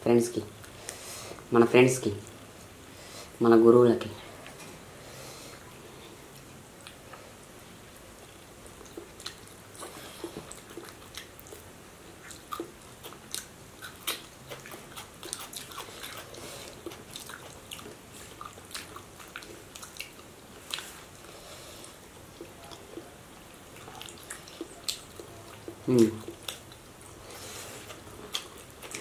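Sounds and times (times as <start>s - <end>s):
people chewing food: 4.2s - 29.0s.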